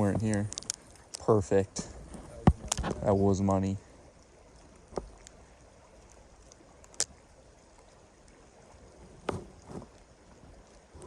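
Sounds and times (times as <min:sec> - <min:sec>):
creek water running: 0:00.0 - 0:11.0.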